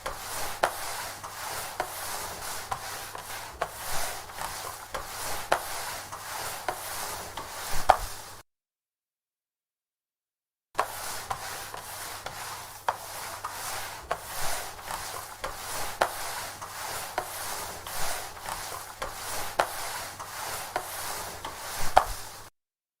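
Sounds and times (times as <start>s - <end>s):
mop knocking: 0.0s - 8.3s, 10.8s - 22.4s
mop swishing over wooden floor: 0.0s - 8.4s, 10.8s - 22.5s.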